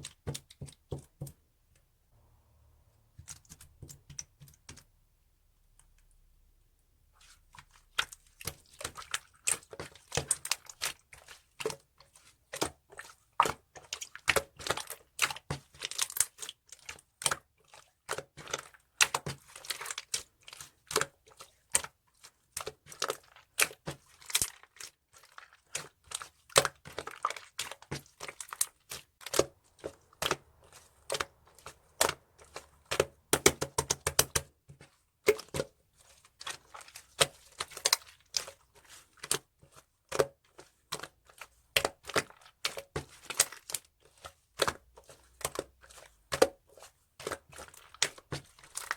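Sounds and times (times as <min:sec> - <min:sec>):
hands squishing slime: 0:03.0 - 0:04.9, 0:07.0 - 0:48.9.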